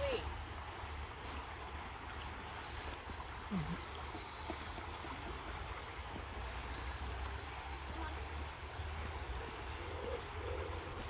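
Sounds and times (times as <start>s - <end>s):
songbirds singing: 1.2s - 11.0s.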